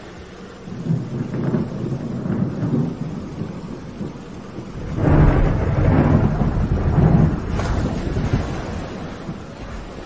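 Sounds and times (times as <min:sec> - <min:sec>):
sea waves: 0:00.0 - 0:10.0
steady rain: 0:00.0 - 0:10.0
thunder rumbling: 0:00.0 - 0:10.0.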